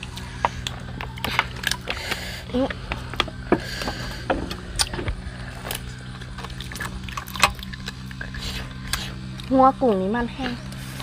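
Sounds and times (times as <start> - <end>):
chewing and crunching shrimp: 0.0 - 11.0
steady low hum: 0.0 - 11.0.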